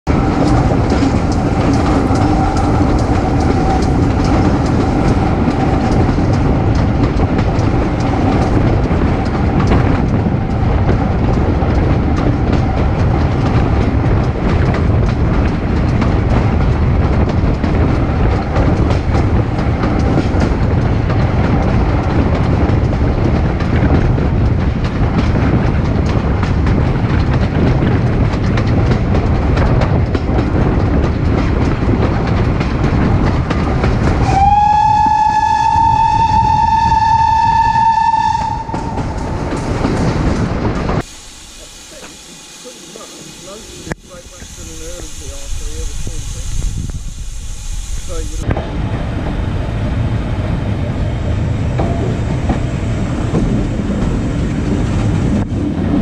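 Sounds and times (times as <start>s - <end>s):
train wheels rumbling on track: 0.0s - 56.0s
clickety-clack of rail joints: 0.1s - 41.1s, 41.9s - 47.3s, 47.9s - 56.0s.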